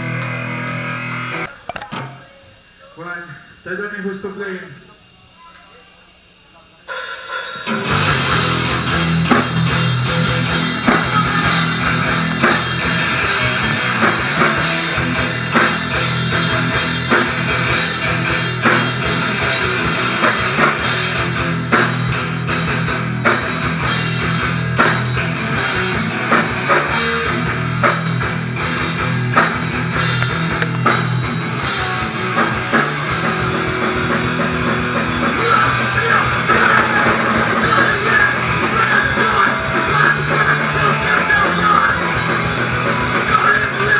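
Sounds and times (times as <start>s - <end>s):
distorted electric guitars: 0.0s - 43.9s
pounding drum kit: 6.9s - 43.9s.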